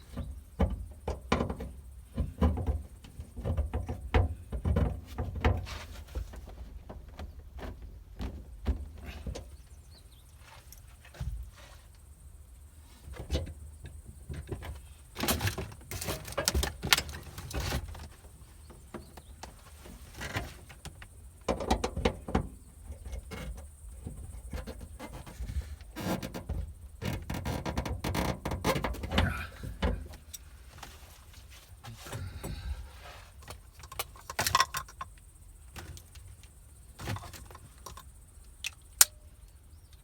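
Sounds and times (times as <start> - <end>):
handling rustling and scraping: 0.0 - 38.3.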